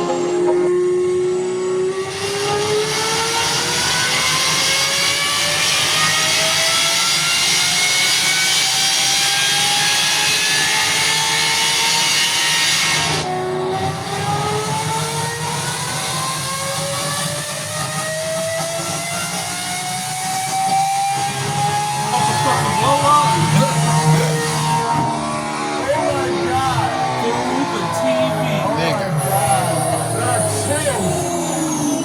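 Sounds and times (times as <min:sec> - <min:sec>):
sports car engine at full throttle: 0:00.0 - 0:32.0.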